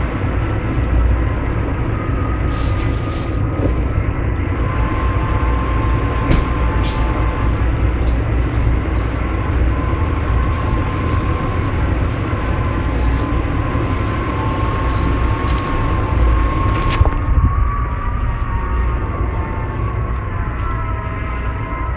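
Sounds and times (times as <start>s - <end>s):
strong wind buffeting: 0.0s - 21.9s
wind whistling through door gap: 0.0s - 21.9s.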